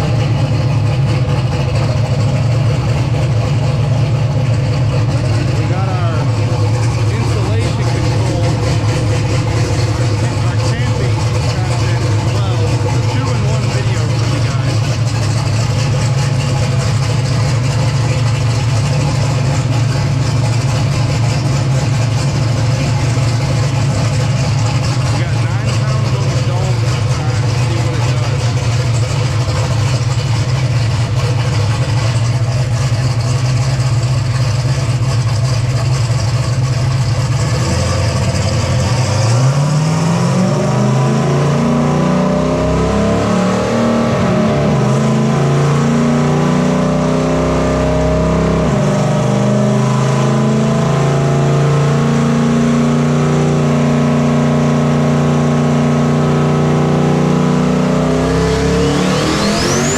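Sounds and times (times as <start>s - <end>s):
truck engine revving on dyno: 0.0s - 59.9s.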